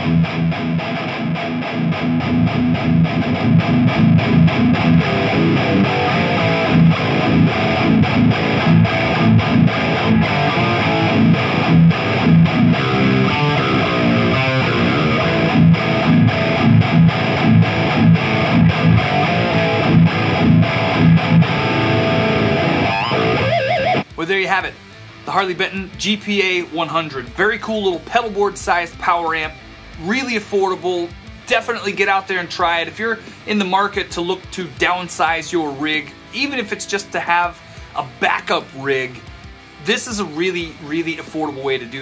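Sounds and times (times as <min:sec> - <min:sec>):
distorted electric guitar riff: 0:00.0 - 0:41.3.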